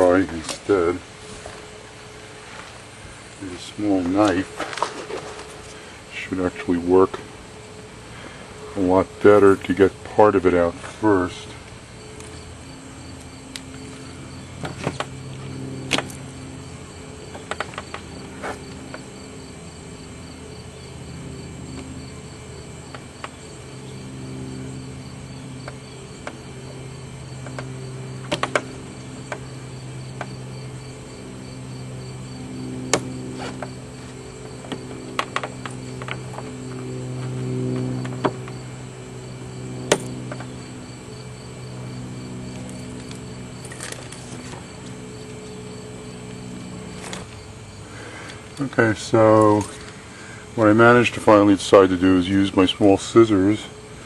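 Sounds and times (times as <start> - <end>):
faint insect-like chirping: 0.0 - 54.0
steady low hum: 0.0 - 54.0.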